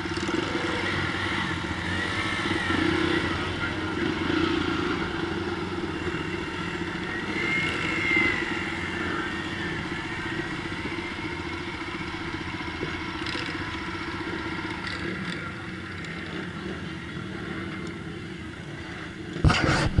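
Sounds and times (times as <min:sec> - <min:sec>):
motorcycle engine running at low revs: 0:00.0 - 0:20.0.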